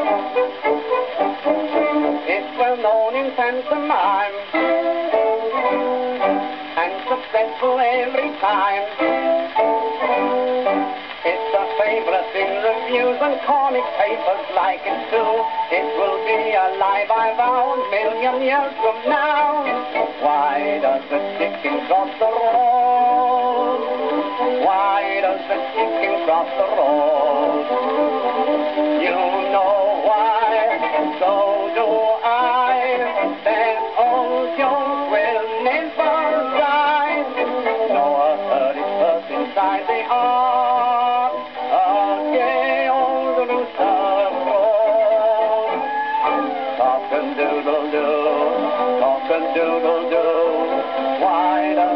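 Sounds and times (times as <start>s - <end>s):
instrumental accompaniment: 0.0s - 51.9s
man singing novelty song: 0.0s - 51.9s.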